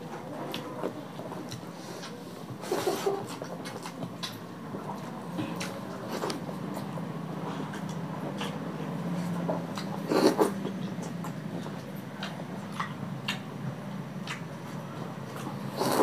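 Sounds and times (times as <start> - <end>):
chewing and lip-smacking: 0.1 - 16.0.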